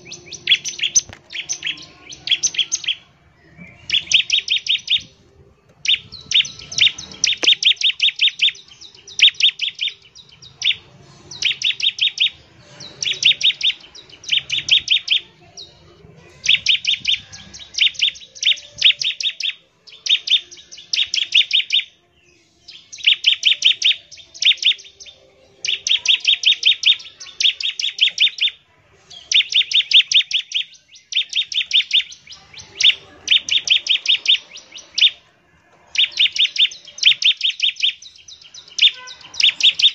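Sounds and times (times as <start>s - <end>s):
bird singing rapid high notes: 0.0s - 5.2s, 5.8s - 35.3s, 35.9s - 39.9s.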